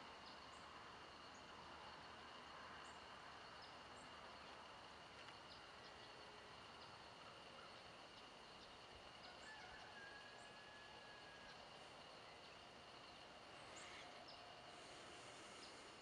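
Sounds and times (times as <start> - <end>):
high insect drone: 0.1 - 16.0.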